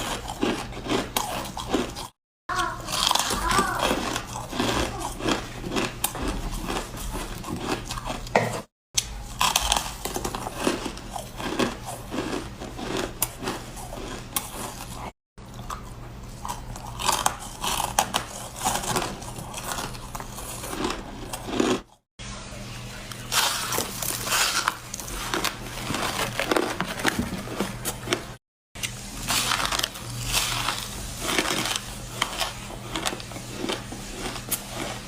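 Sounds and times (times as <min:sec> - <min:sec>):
ice being chewed: 0:00.0 - 0:22.0, 0:23.3 - 0:28.4, 0:29.2 - 0:35.0.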